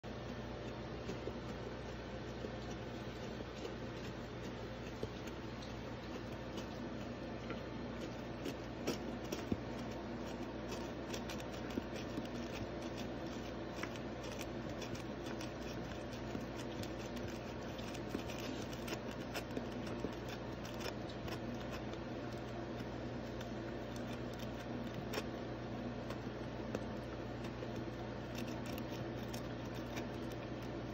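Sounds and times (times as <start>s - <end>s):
low background hum: 0.0s - 30.9s.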